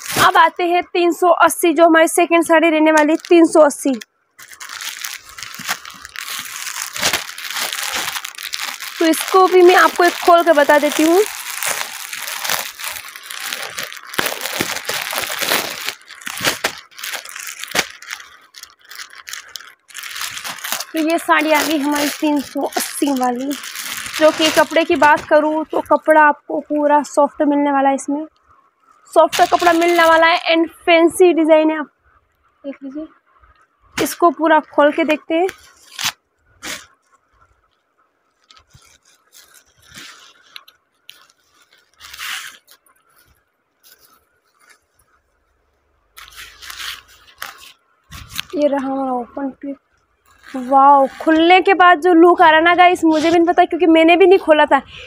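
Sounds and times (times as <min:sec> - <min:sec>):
cloth rustling: 0:00.0 - 0:00.5, 0:02.8 - 0:27.2, 0:29.0 - 0:30.7, 0:34.0 - 0:37.7, 0:38.4 - 0:45.5, 0:46.1 - 0:49.5, 0:50.2 - 0:54.7
plastic packet crinkling: 0:00.0 - 0:00.6, 0:02.6 - 0:27.2, 0:28.8 - 0:30.7, 0:34.0 - 0:45.3, 0:46.1 - 0:54.7.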